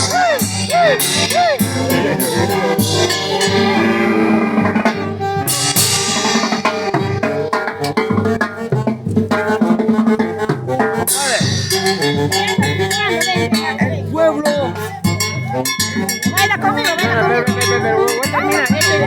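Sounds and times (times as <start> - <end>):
drum kit beat: 0.0 - 19.0
live dance band playing: 0.0 - 19.0.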